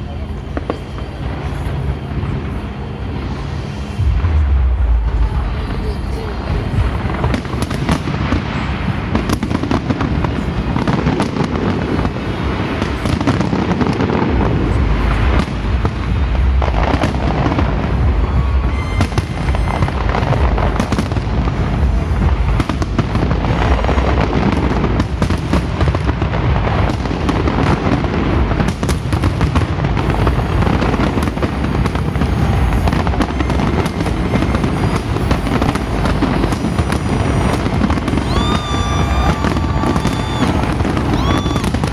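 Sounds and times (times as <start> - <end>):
fireworks bangs and crackles: 0.0 - 41.9
heavy low fireworks booms: 0.0 - 41.9.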